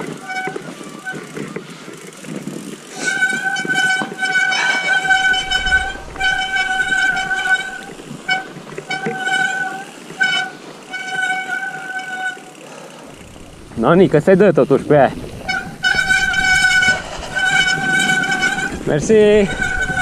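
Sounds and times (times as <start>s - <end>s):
bike disc brakes squealing: 0.0s - 1.7s, 2.6s - 13.9s, 14.9s - 20.0s.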